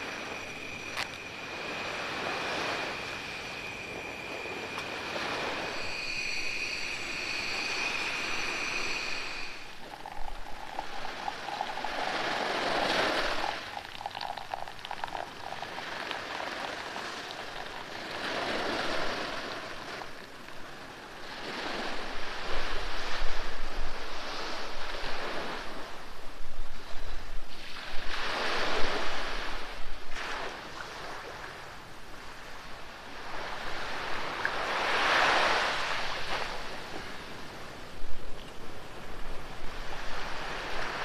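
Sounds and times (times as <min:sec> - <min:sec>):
sea waves breaking on shore: 0:00.0 - 0:41.0.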